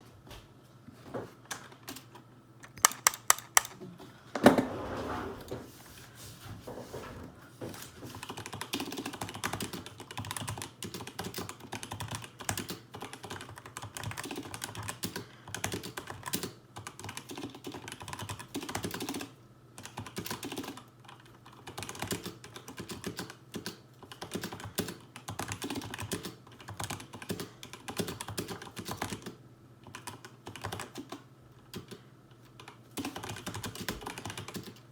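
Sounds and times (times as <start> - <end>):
mechanical keyboard typing: 1.5 - 3.8, 8.2 - 32.0, 32.6 - 34.8.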